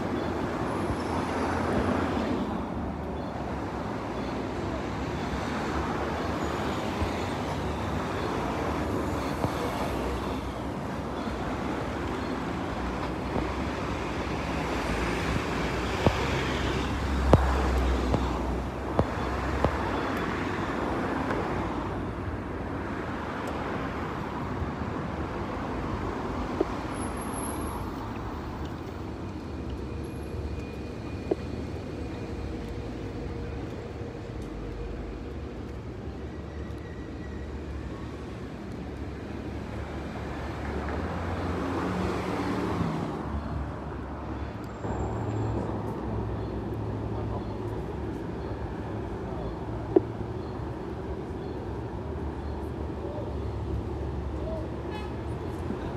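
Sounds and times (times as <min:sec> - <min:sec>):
cars passing: 0:00.0 - 0:55.9.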